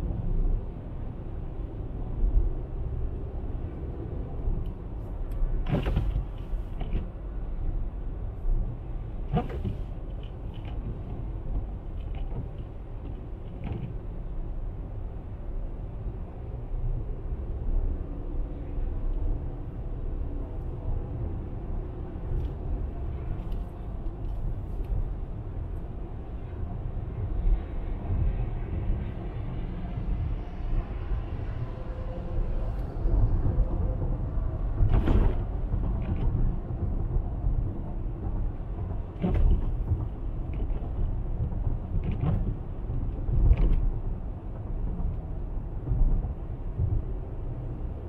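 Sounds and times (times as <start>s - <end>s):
car driving on wet highway: 0.0s - 48.0s.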